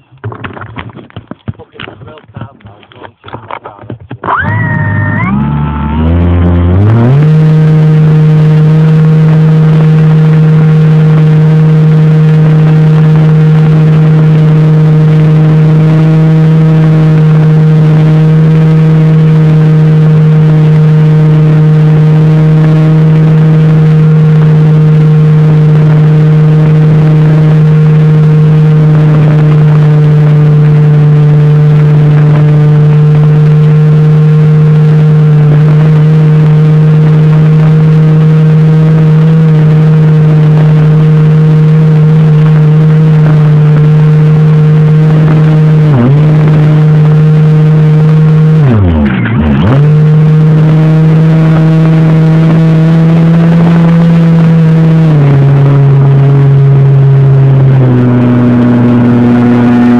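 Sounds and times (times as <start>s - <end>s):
electric motor propeller whine: 4.3s - 59.9s.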